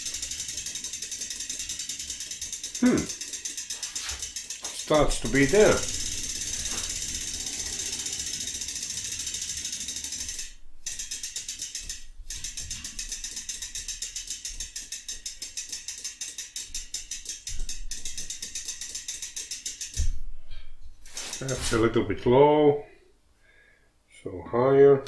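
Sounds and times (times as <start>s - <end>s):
bicycle hub ratchet clicking: 0.0s - 20.2s, 21.1s - 21.8s.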